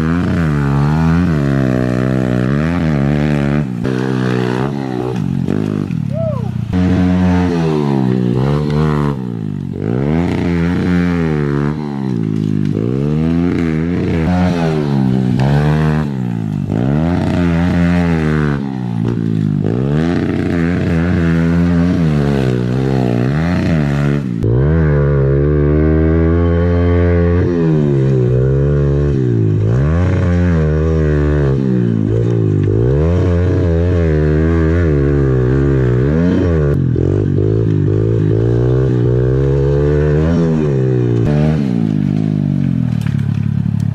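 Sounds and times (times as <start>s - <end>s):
pit bike engine revving: 0.0s - 43.9s.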